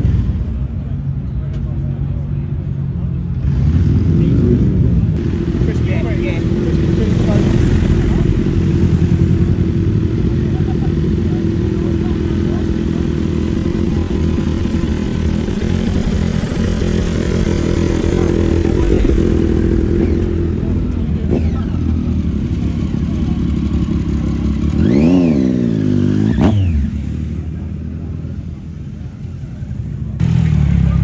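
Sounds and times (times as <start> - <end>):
motorcycle engines rumbling: 0.0 - 31.0
motorcycle engine revving: 3.4 - 31.0.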